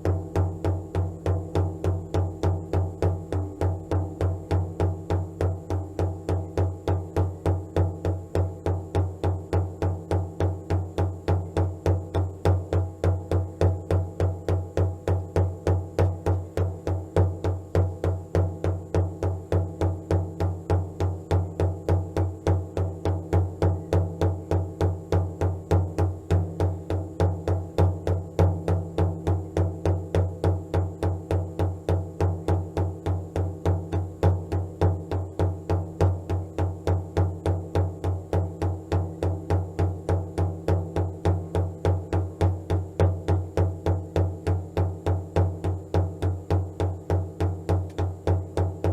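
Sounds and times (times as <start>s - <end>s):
steady deep drumbeat: 0.0s - 48.9s.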